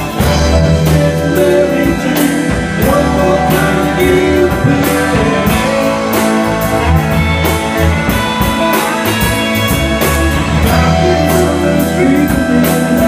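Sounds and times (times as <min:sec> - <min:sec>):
drums steady beat: 0:00.0 - 0:13.0
electric guitar: 0:00.0 - 0:13.0
keyboard: 0:00.0 - 0:13.0.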